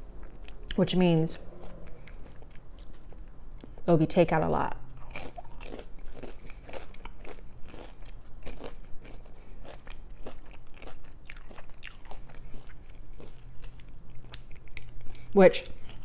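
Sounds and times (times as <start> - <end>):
chewing crispy food: 1.6 - 3.9, 5.0 - 16.0.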